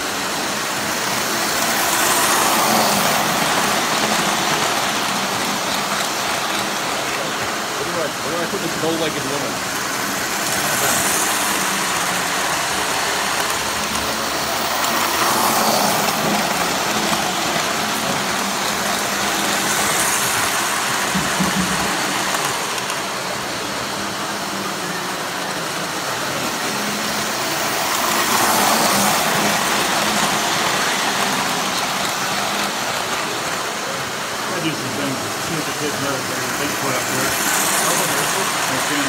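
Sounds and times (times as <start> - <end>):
model trains rumbling on track: 0.0 - 39.0.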